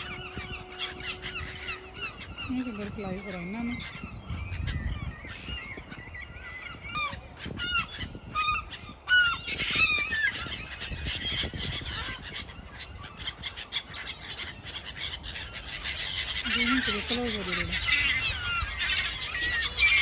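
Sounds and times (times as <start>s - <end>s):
chorus of bird calls: 0.0s - 20.0s
harsh bird calls: 0.0s - 20.0s.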